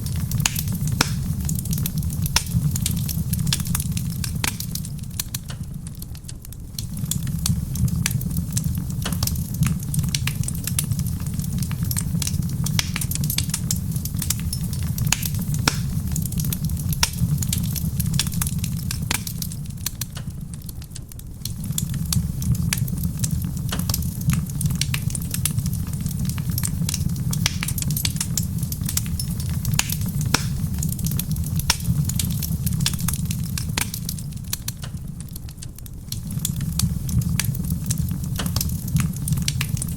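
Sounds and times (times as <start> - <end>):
soft rain on a roof: 0.0 - 39.9
wood fire crackling and popping: 0.0 - 39.9.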